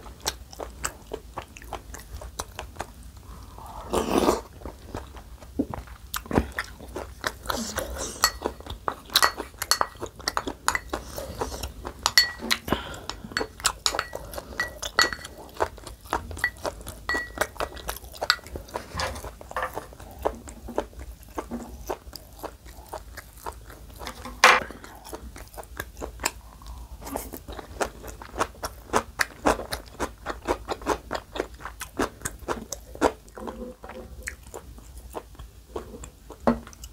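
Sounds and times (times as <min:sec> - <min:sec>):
wet crunching and chewing: 0:00.0 - 0:03.4, 0:04.0 - 0:36.9.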